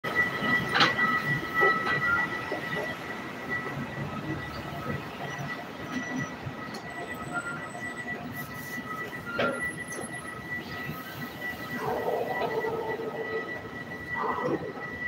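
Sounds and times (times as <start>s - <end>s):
train high whine: 0.1s - 15.0s.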